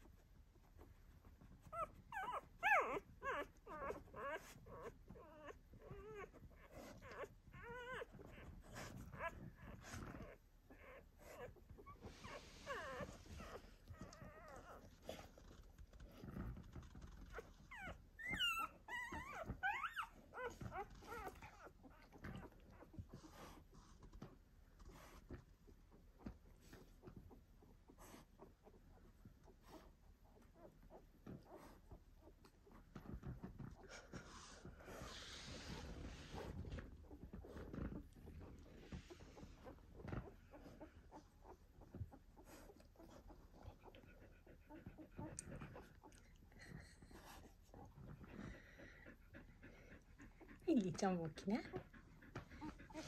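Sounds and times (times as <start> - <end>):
puppies whimpering and squeaking: 1.2 - 24.3, 26.2 - 53.0.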